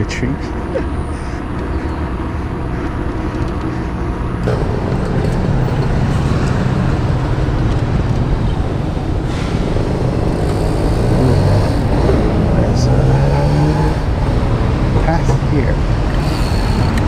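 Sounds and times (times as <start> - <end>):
bicycle tyre road noise: 0.0 - 17.0.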